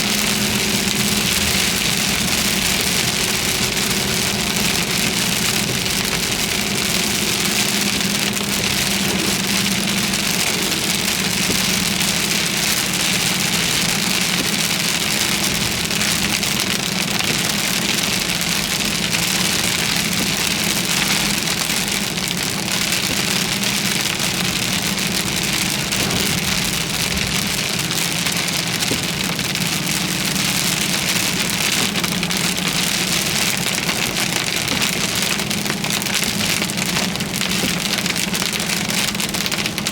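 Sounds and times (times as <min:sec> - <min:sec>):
engine hum and road noise: 0:00.0 - 0:39.9
heavy rain on a vehicle: 0:00.0 - 0:39.9.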